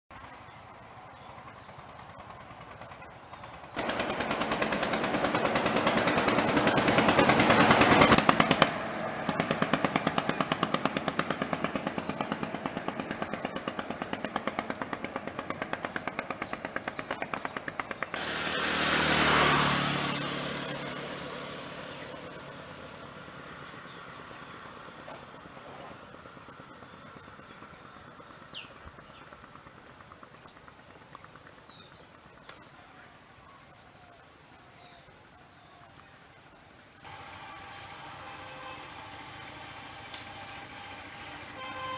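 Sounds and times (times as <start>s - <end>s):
vehicle passing by: 0.1s - 30.2s, 37.0s - 41.9s
engine running with fast beat: 0.1s - 32.6s, 37.0s - 41.9s.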